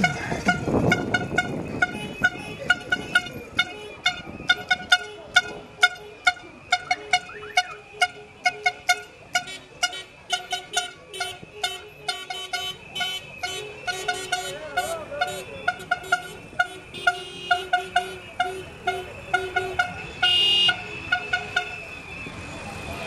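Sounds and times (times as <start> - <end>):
car horns tooting: 0.0 - 23.0.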